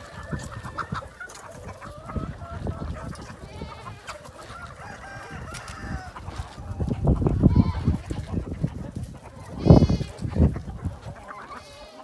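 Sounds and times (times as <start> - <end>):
chickens and roosters clucking: 0.0 - 12.0.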